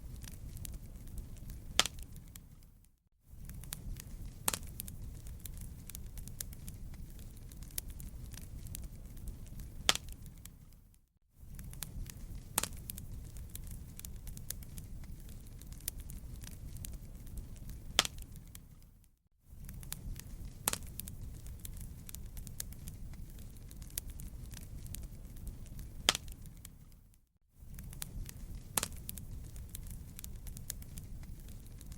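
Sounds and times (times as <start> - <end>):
sharp fire pops: 0.0 - 2.7, 3.4 - 10.8, 11.5 - 18.9, 19.6 - 27.0, 27.7 - 31.9
low rumble of flames: 0.0 - 31.9
wood fire crackling: 0.0 - 31.9.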